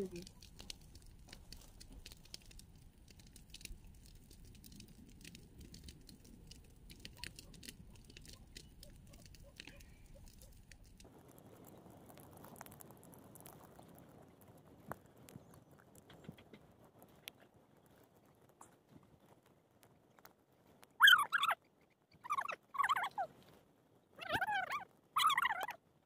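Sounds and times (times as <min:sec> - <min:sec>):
dry stalks rustling: 0:00.0 - 0:25.6.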